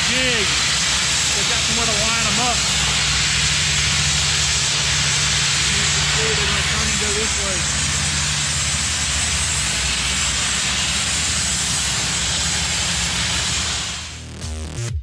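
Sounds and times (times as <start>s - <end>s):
blasting nozzle hissing: 0.0s - 14.3s
low hum: 0.0s - 14.4s.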